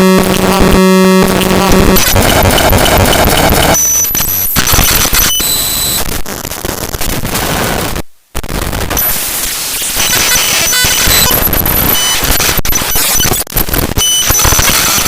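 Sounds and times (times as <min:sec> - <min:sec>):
harsh static crackling: 0:00.0 - 0:15.0.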